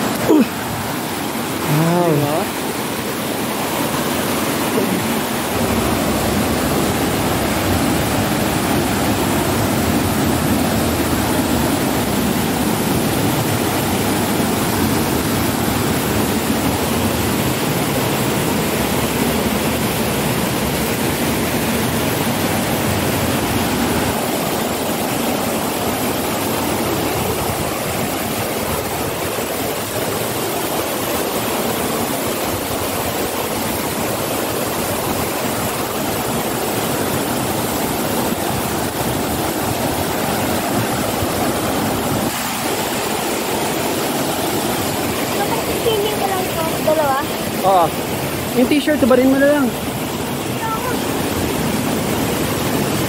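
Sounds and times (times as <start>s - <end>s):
river rushing over rocks: 0.0s - 53.0s.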